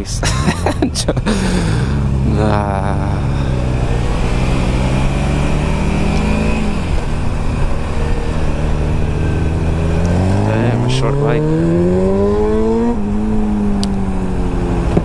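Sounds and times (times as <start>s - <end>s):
motorcycle engine revving: 1.0s - 15.0s.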